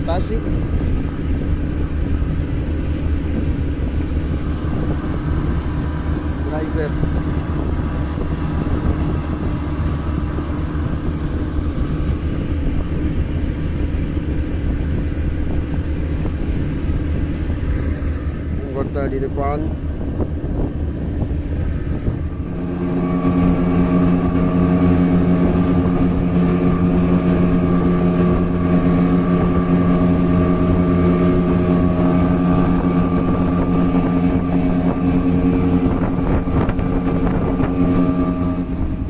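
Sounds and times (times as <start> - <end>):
motorboat engine running: 0.0 - 39.0.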